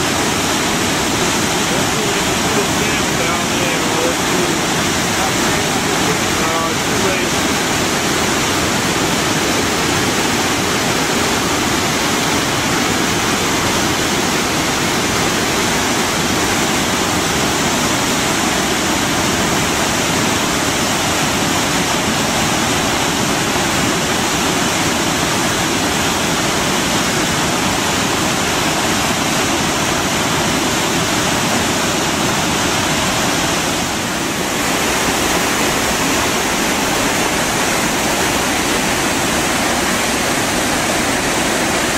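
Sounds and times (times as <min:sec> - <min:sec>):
waterfall rushing over rocks: 0:00.0 - 0:41.9.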